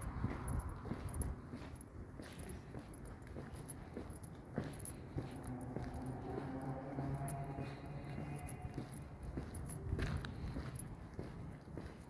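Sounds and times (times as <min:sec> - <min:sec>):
footsteps of person walking: 0:00.0 - 0:12.0.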